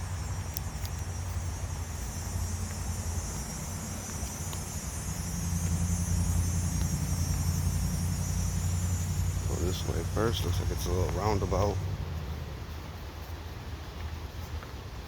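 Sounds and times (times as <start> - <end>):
steady low rumble: 0.0 - 14.4
insects hissing: 0.0 - 15.0.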